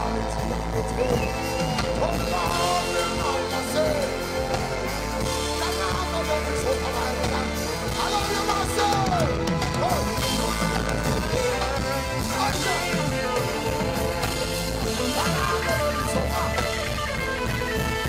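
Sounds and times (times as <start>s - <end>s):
live reggae band: 0.0s - 18.0s.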